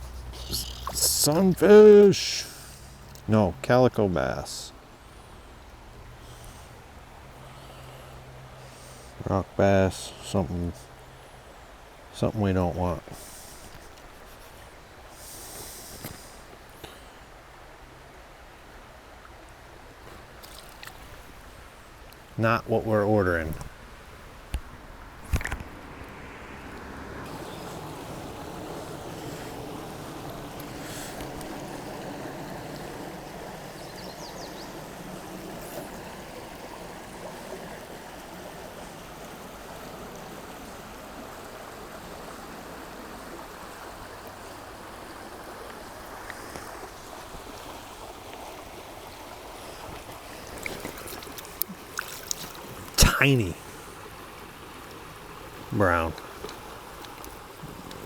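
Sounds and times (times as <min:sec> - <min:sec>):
river water running: 0:00.0 - 0:58.0.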